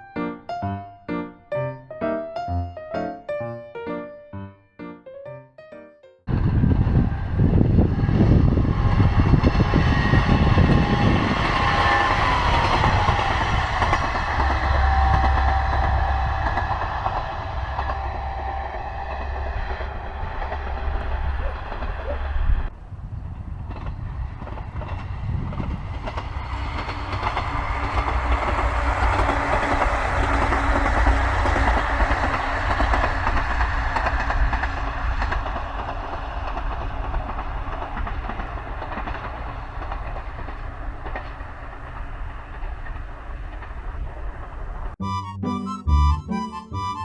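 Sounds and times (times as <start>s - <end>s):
diesel train passing: 6.3s - 47.0s.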